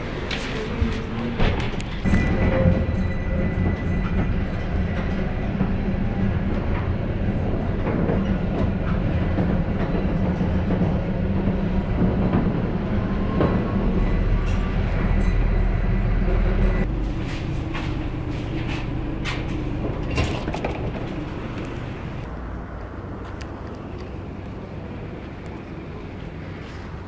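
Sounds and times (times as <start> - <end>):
tram motors and wheels humming: 0.0 - 27.0.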